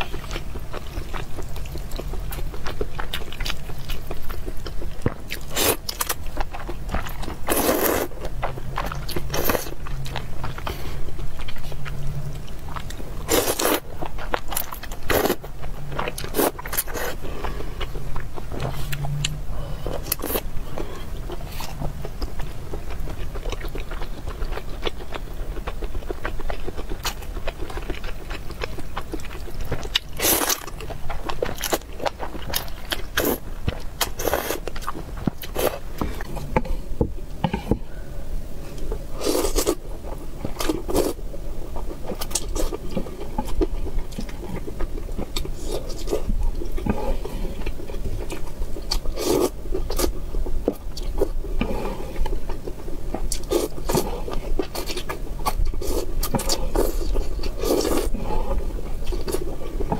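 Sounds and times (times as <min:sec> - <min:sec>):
wet chewing: 0:00.0 - 0:36.7, 0:38.8 - 0:59.9.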